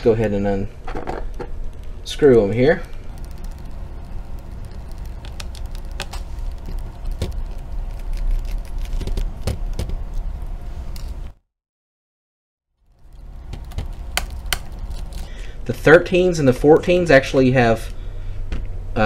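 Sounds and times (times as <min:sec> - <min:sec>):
steady low rumble: 0:00.0 - 0:11.4, 0:12.8 - 0:18.4.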